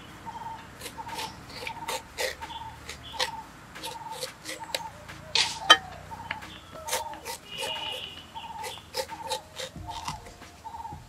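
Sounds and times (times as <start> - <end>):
chickens calling: 0.0 - 11.0
small birds calling: 0.0 - 11.0
knife slicing crisp cuts: 0.8 - 10.6.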